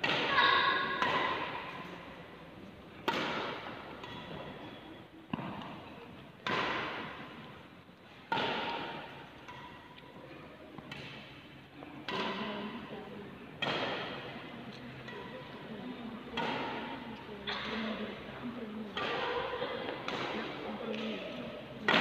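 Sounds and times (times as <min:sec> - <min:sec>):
racket hitting shuttlecock: 0:00.0 - 0:02.0, 0:03.0 - 0:10.1, 0:10.7 - 0:11.4, 0:12.0 - 0:12.9, 0:13.6 - 0:15.6, 0:16.2 - 0:18.2, 0:18.9 - 0:22.0.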